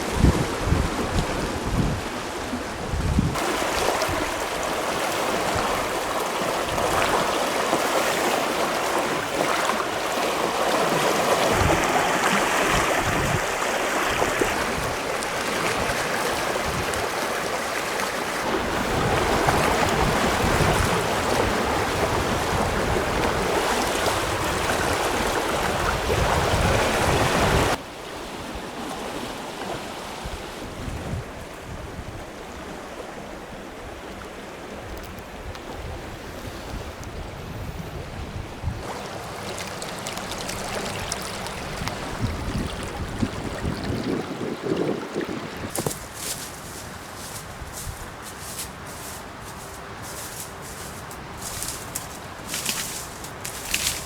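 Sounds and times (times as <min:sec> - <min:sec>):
wind buffeting microphone: 0:00.0 - 0:07.3, 0:10.9 - 0:17.5, 0:18.4 - 0:27.8, 0:30.2 - 0:32.7, 0:34.8 - 0:38.9, 0:40.4 - 0:54.0
rushing river water: 0:00.0 - 0:38.2, 0:38.8 - 0:54.0.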